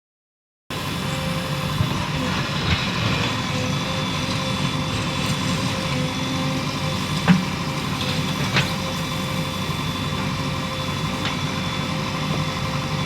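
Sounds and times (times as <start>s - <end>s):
diesel engine running: 0.7s - 13.0s.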